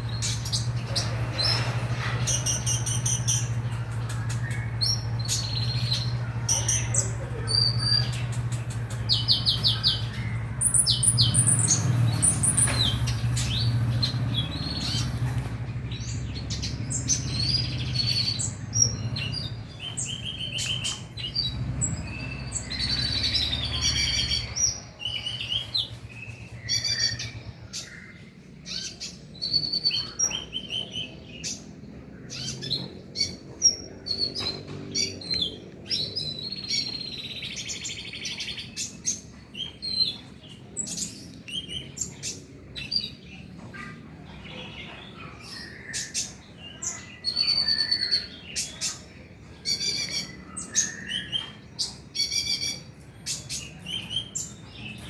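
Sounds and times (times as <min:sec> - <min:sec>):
bird singing high chirps and trills: 0:00.0 - 0:55.0.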